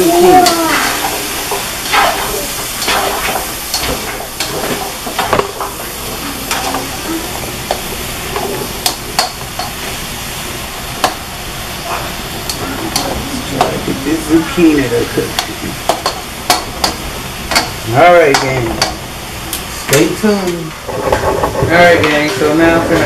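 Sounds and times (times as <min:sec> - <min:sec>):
vegetables sizzling in a skillet: 0:00.0 - 0:23.0.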